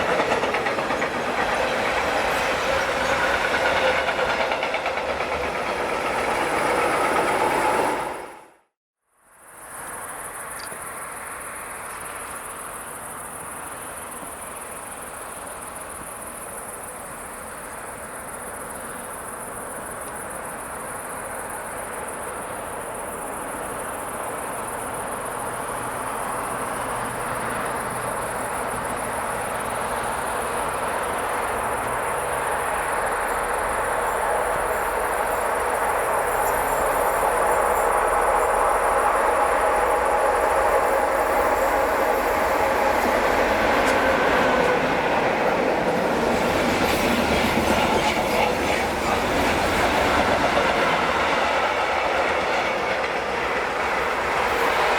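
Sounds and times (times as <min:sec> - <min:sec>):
train passing: 0:00.0 - 0:08.7, 0:09.3 - 0:54.9
insects chirring: 0:09.3 - 0:54.9.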